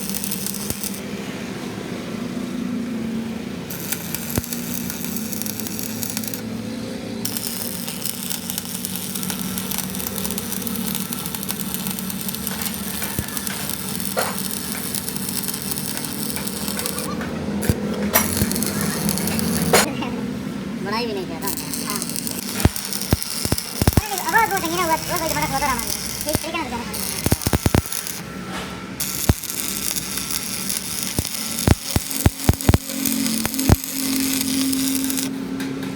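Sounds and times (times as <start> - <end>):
steady mechanical hum: 0.0 - 35.9.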